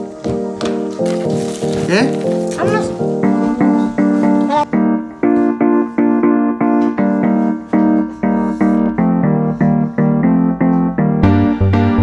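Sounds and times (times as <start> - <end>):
electric piano repeated notes: 0.0 - 12.0.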